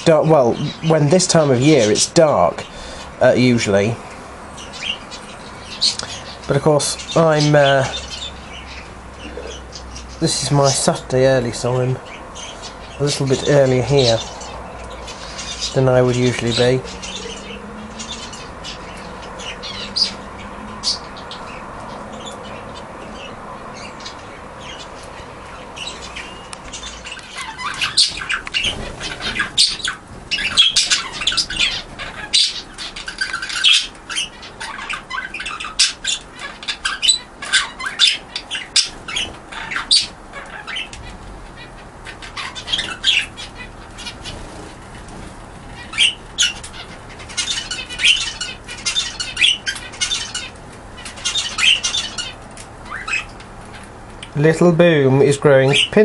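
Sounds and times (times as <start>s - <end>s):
budgerigars chirping and squawking: 0.0s - 56.0s
steady background hum: 0.0s - 56.0s.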